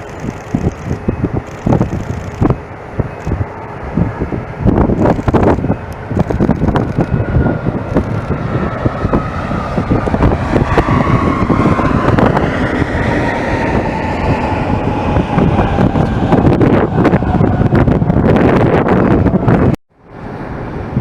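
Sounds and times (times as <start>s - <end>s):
jet airliner passing: 0.0s - 21.0s
wind buffeting microphone: 0.0s - 21.0s.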